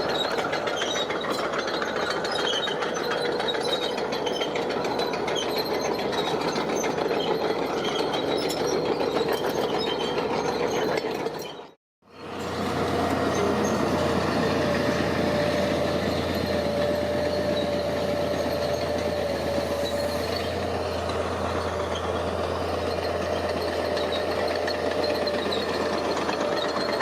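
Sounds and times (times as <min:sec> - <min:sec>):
diesel construction machinery running: 0:00.0 - 0:27.0.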